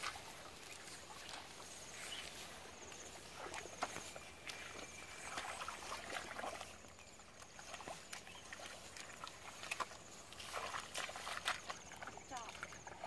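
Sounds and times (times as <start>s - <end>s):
footsteps squelching through mud: 0.0s - 13.0s.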